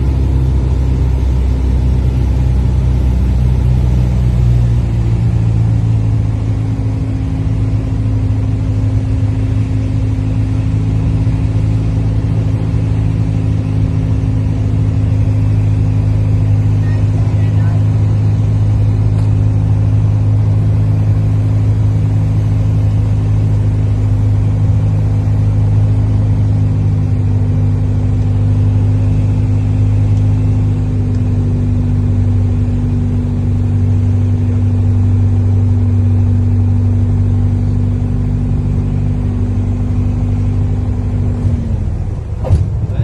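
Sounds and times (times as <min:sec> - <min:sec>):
aircraft engines droning in cabin: 0:00.0 - 0:43.0.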